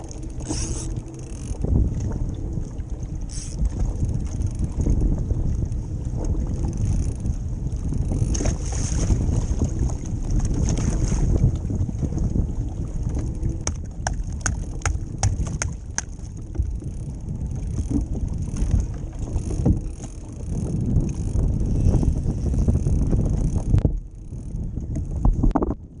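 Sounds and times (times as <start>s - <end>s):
choppy sea water: 0.0s - 26.0s
strong wind buffeting microphone: 0.0s - 26.0s.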